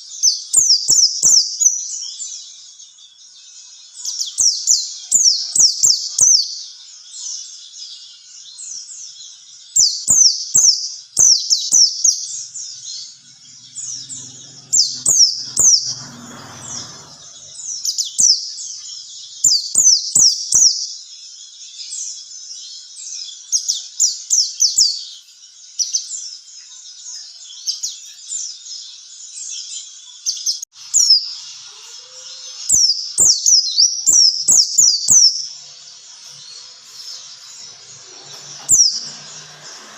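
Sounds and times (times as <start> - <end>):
small bird chattering song: 0.0 - 39.8.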